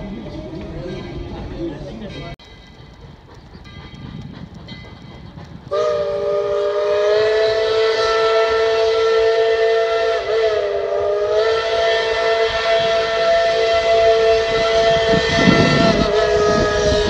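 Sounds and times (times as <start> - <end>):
steam locomotive chime whistle: 0.3 - 17.0.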